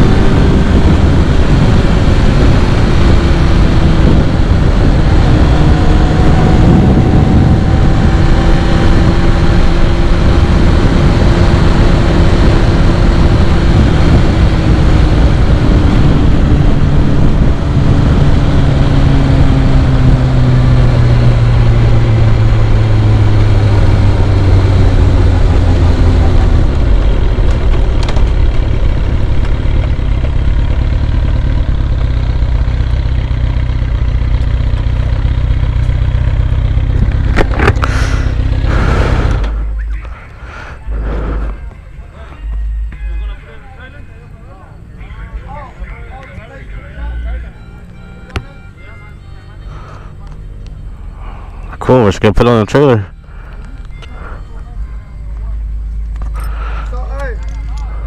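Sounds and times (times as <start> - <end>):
road or wind noise: 0.0 - 58.0
vehicle engine running: 0.0 - 58.0.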